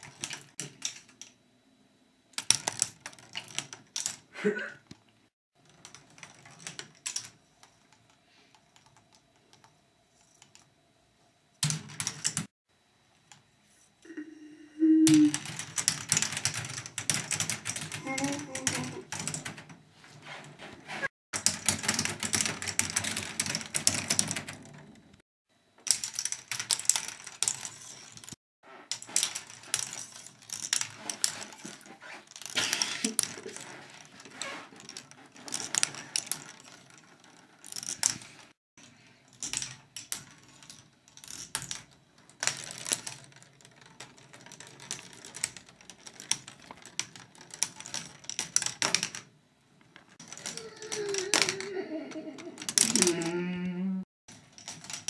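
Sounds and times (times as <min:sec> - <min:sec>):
plastic balls clattering on rods: 0:00.0 - 0:01.4, 0:02.4 - 0:05.0, 0:05.6 - 0:09.7, 0:15.1 - 0:19.8, 0:21.4 - 0:25.2, 0:25.8 - 0:51.8, 0:52.6 - 0:53.4, 0:54.3 - 0:55.0.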